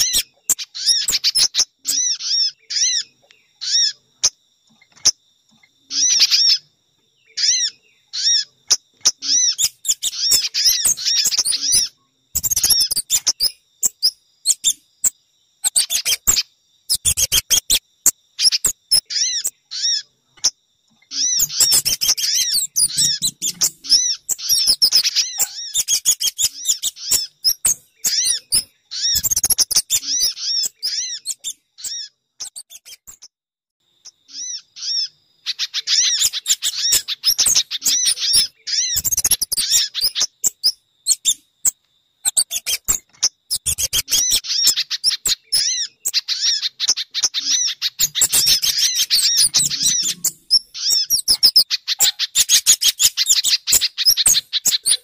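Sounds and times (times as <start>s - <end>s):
high bird chirps: 0.0s - 33.4s, 34.0s - 55.0s.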